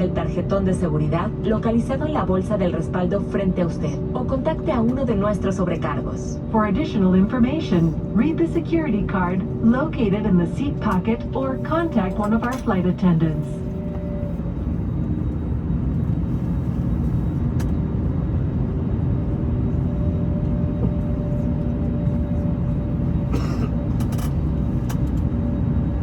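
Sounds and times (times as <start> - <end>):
jet engine cabin rumble: 0.0 - 26.0.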